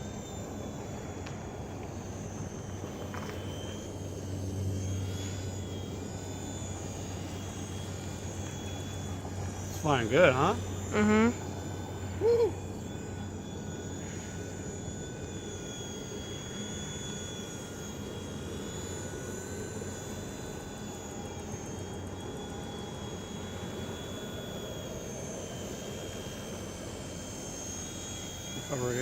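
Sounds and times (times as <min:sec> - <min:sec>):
toy helicopter motor whine: 0:00.0 - 0:29.0.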